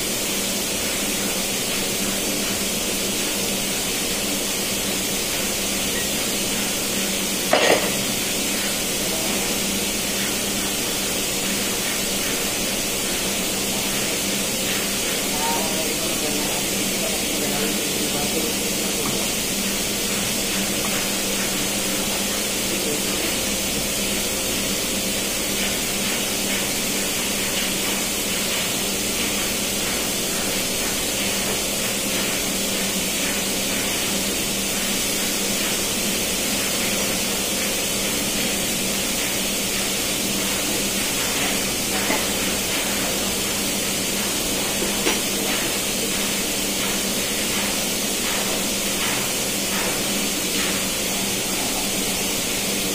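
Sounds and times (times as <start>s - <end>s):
engine room hiss: 0.0s - 52.9s
machinery hum: 0.0s - 52.9s.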